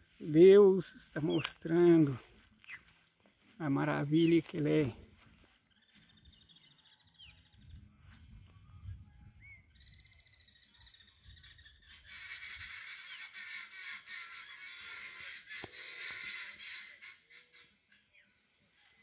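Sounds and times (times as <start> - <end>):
birds whistling and chirping: 0.0 - 19.0.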